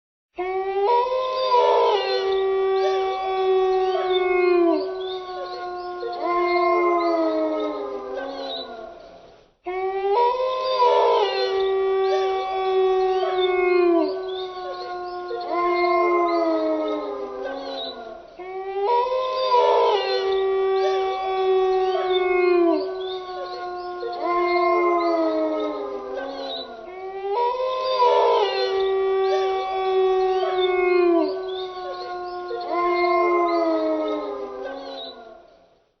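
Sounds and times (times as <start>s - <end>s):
wolves howling in chorus: 0.8s - 9.0s, 10.2s - 35.5s.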